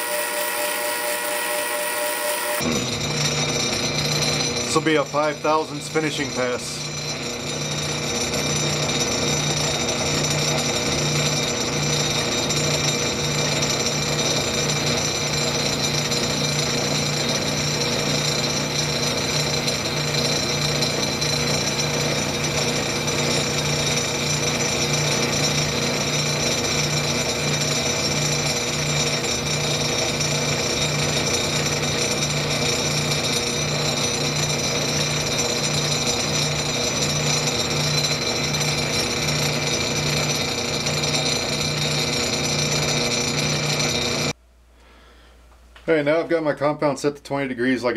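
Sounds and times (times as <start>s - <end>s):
lathe machine whine: 0.0s - 44.4s.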